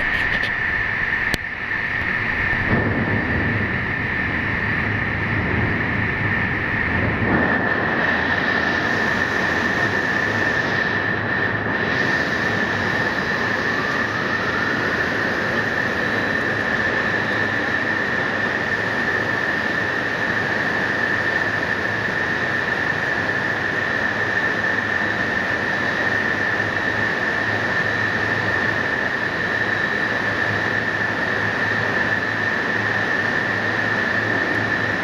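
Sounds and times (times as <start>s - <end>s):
high-pitched machine whine: 0.0s - 35.0s.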